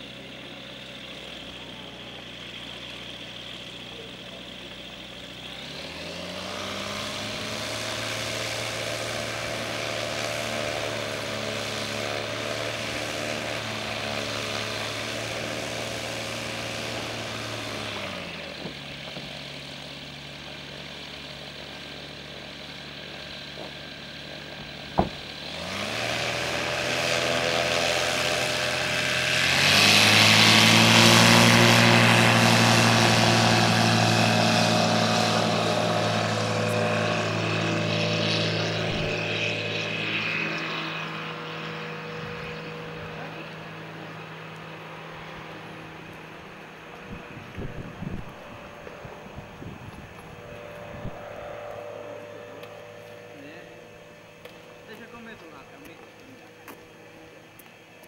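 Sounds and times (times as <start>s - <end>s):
propeller aircraft engine: 0.0s - 58.0s.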